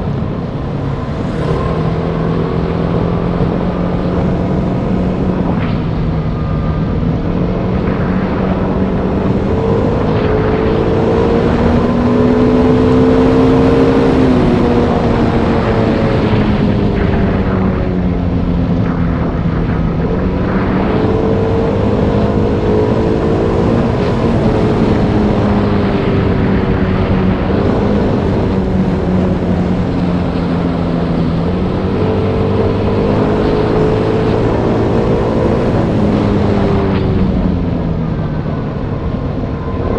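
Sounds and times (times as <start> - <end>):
steady rush of noise: 0.0 - 39.9.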